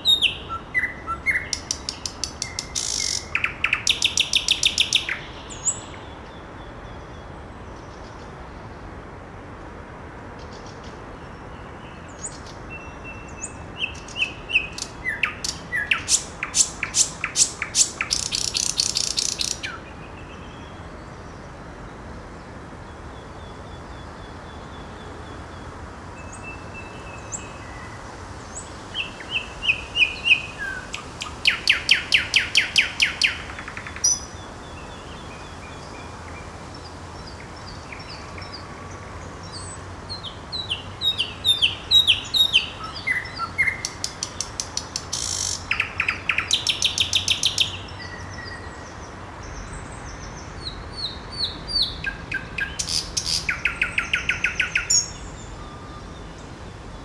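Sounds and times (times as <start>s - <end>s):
nightingale singing: 0.0s - 7.2s, 11.4s - 20.9s, 26.2s - 57.0s.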